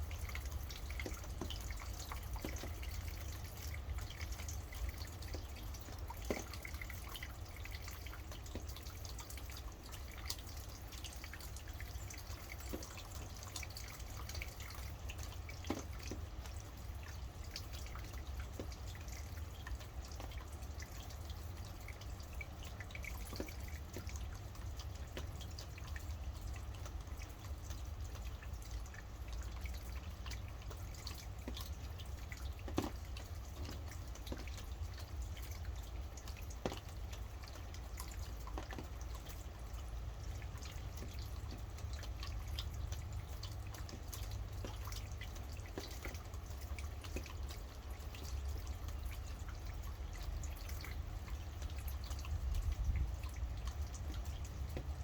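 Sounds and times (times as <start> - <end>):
steady rain: 0.0 - 55.0
water drops dripping: 0.0 - 55.0.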